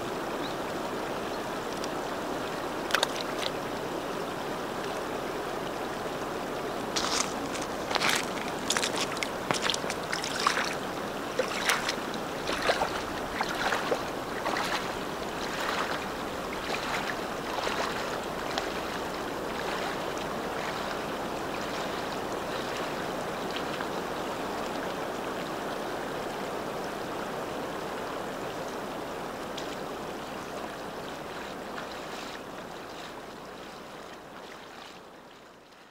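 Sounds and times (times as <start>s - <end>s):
river water lapping over pebbles: 0.1s - 27.0s, 27.8s - 35.9s.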